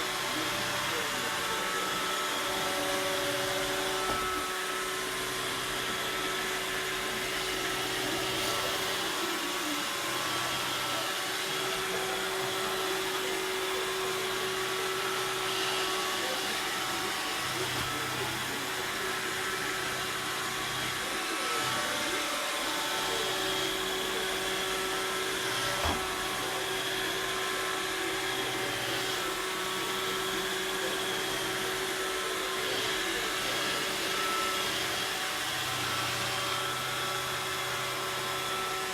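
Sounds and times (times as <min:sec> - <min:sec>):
robot vacuum motor whirring: 0:00.0 - 0:38.9.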